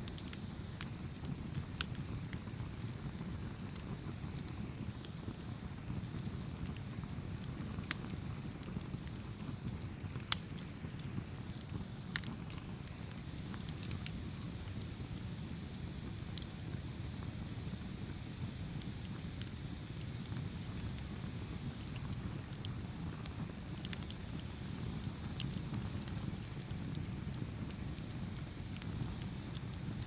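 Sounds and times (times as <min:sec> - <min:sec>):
campfire low rumble: 0:00.0 - 0:30.0
fire crackles and pops: 0:00.0 - 0:30.0.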